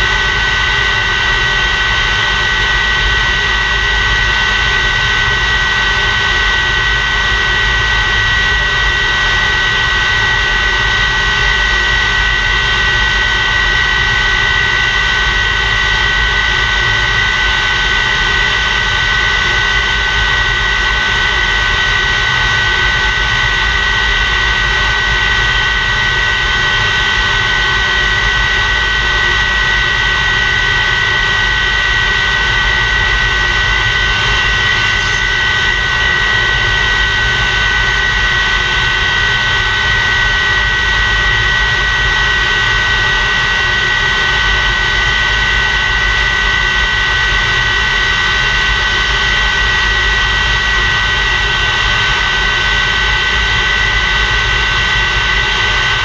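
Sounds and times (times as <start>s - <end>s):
high two-toned whine: 0.0s - 56.0s
jet engine running: 0.0s - 56.0s.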